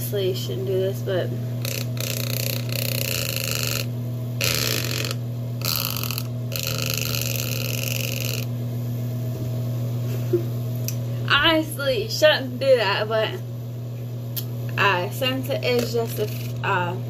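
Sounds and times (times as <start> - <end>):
fan blades buzzing against lips: 0.0 - 17.0
small fan humming: 0.0 - 17.0.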